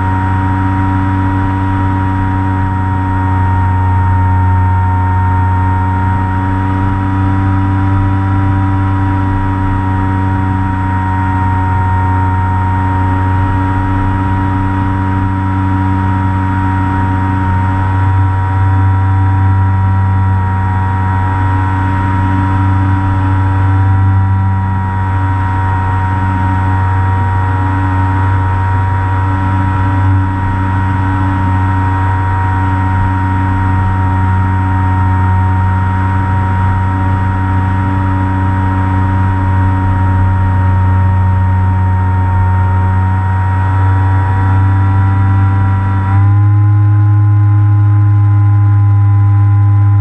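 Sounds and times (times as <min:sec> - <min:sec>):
model plane motor and propeller: 0:00.0 - 0:50.0.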